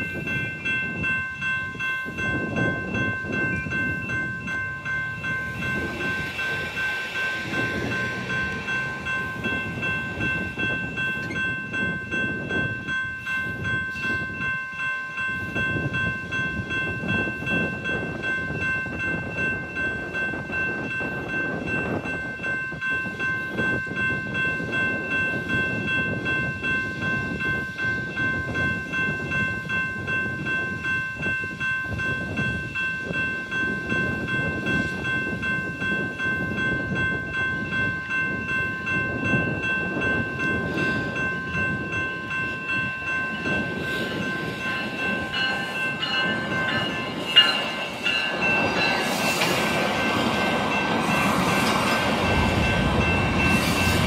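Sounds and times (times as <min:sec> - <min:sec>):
crossing warning bell ringing: 0:00.0 - 0:54.0
train rumbling past: 0:00.0 - 0:54.0.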